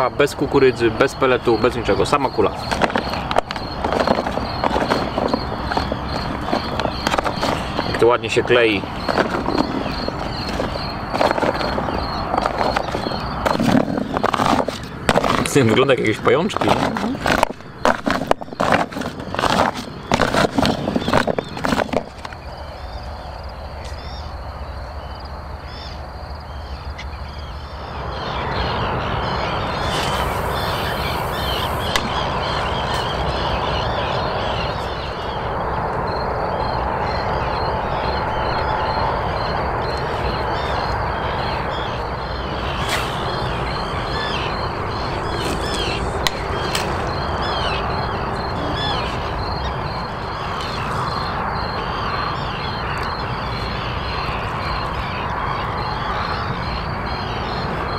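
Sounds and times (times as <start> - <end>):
chorus of animal calls: 0.0 - 17.3, 22.5 - 57.9
steady rushing noise: 0.0 - 25.6, 27.2 - 57.9.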